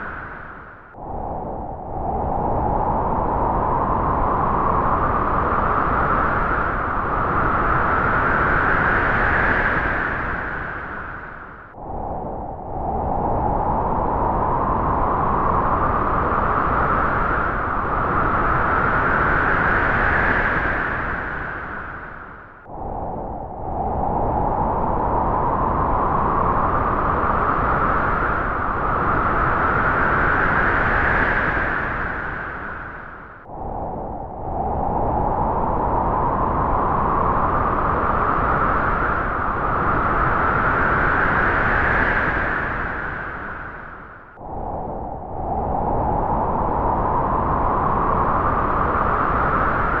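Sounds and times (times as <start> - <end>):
strong wind blowing: 0.0 - 50.0.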